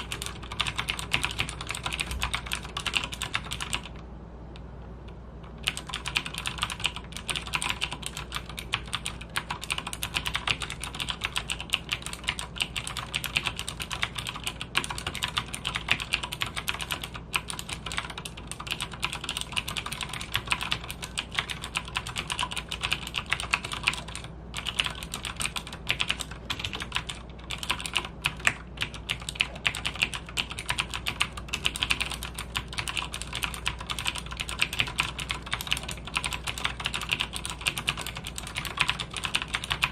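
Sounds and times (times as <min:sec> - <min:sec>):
clicky mechanical keyboard typing: 0:00.0 - 0:04.0, 0:05.4 - 0:39.9.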